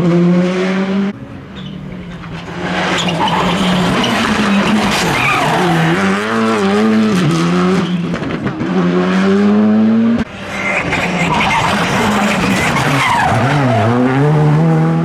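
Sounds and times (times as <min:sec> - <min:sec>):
rally car engine revving hard: 0:00.0 - 0:15.0
engine crack: 0:00.6 - 0:08.7, 0:10.2 - 0:14.9.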